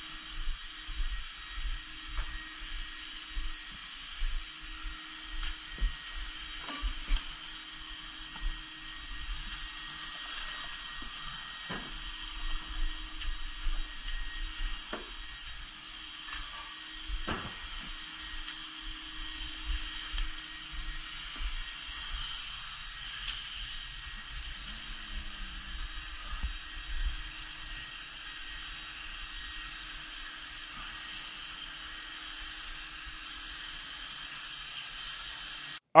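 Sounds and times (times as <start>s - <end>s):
air-moving equipment hissing: 0.0s - 35.8s.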